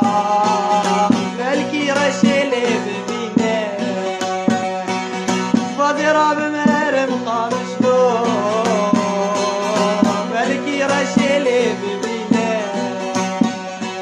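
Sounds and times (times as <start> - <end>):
regular beat: 0.0 - 14.0.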